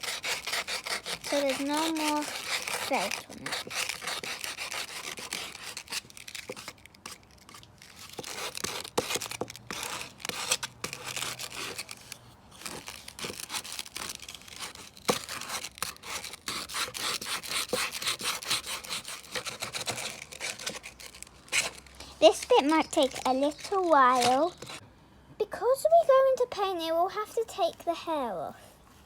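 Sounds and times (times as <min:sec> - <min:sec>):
sandpaper scratching: 0:00.0 - 0:24.8.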